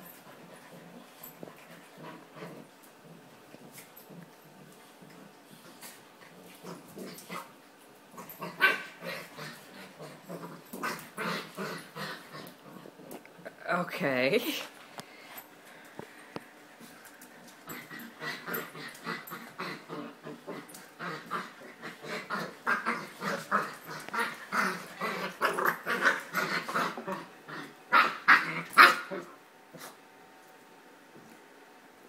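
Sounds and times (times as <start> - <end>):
dogs play-growling: 0.0 - 13.7, 14.8 - 30.5.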